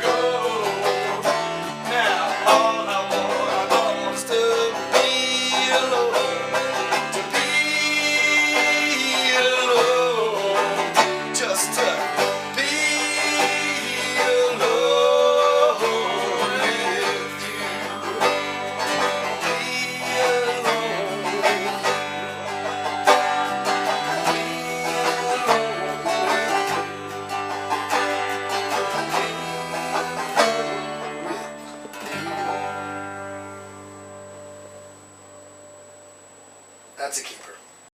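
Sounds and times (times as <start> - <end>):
bluegrass banjo and guitar music: 0.0 - 34.9.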